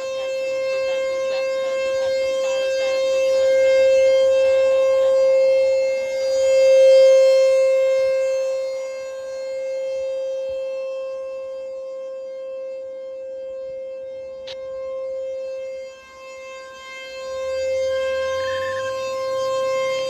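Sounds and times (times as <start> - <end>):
rotating warning siren: 0.0 - 20.0.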